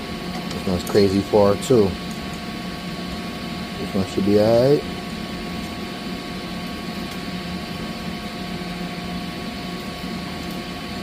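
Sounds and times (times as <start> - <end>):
mechanical hum of boiler equipment: 0.0 - 11.0.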